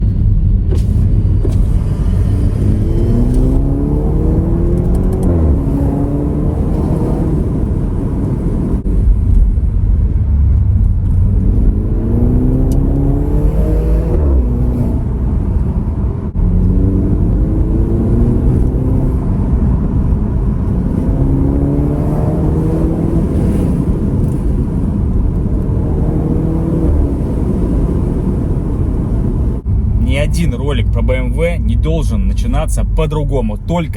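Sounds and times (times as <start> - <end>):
car engine accelerating through gears: 0.1 - 33.0.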